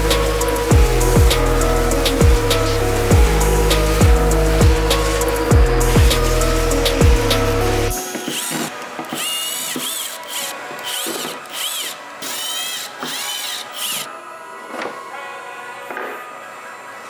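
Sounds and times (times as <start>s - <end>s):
cordless drill motor whine: 0.0s - 14.1s.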